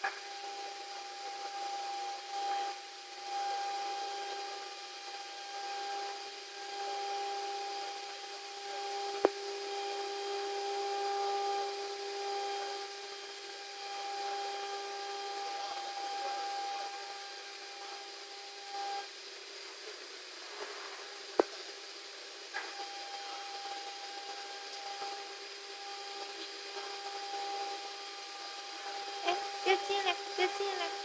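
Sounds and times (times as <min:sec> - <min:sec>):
router spindle whining: 0:00.0 - 0:31.0.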